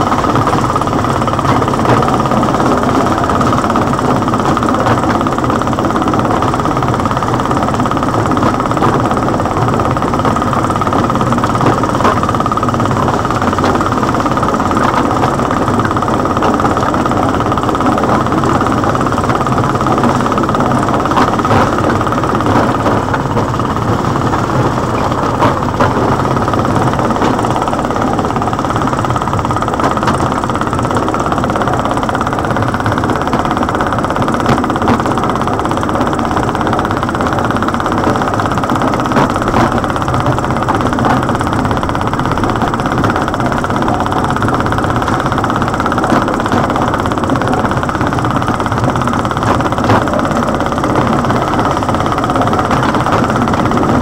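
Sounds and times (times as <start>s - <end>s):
small locomotive engine running: 0.0s - 54.0s.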